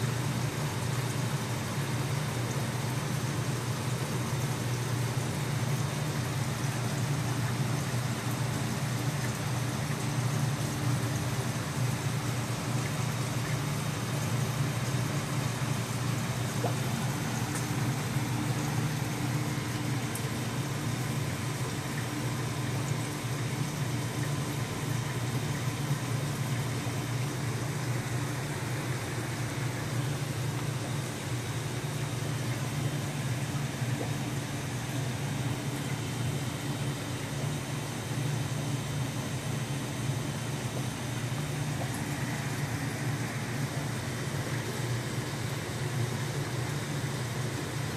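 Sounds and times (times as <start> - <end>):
aquarium pump humming: 0.0 - 47.9.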